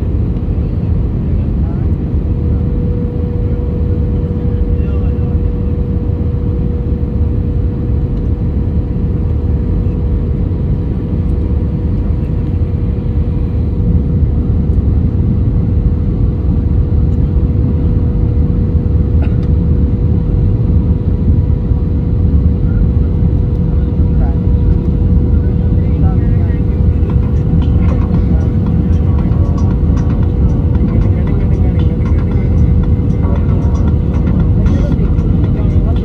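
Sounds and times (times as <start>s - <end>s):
constant hum: 0.0s - 36.0s
jet engines rumbling: 0.0s - 36.0s.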